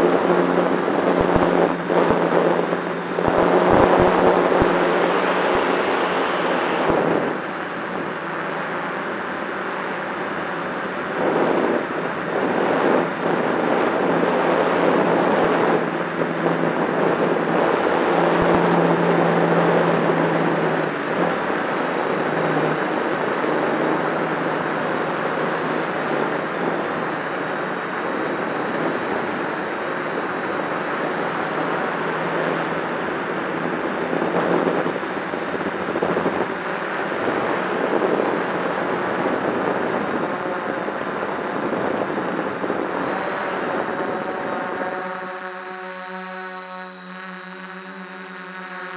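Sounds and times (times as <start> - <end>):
drone motors and propellers: 0.0 - 48.9
wind on microphone: 0.0 - 48.9.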